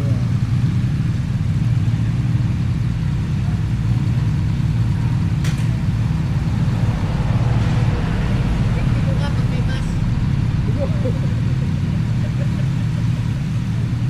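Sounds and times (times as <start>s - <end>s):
engine low drone: 0.0s - 14.0s.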